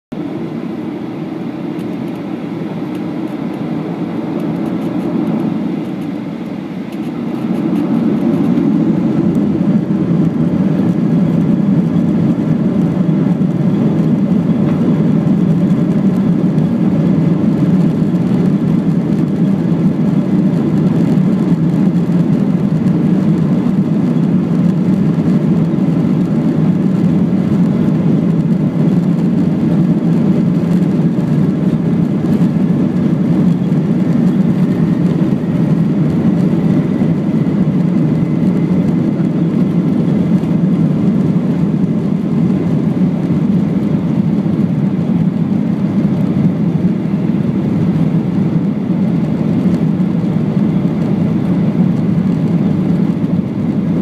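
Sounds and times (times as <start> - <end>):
jet engines rumbling: 0.1 - 54.0.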